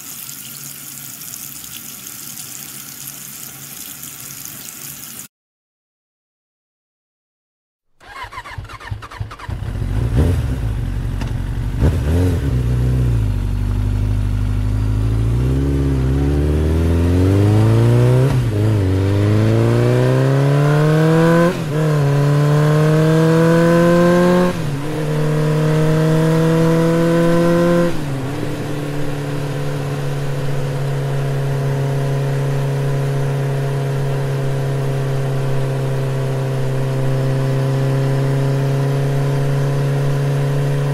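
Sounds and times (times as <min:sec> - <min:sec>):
engine accelerating through gears: 0:08.0 - 0:40.9.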